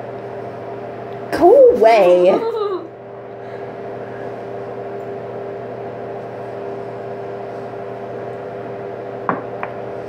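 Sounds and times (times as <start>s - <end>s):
fan hiss: 0.0s - 10.0s.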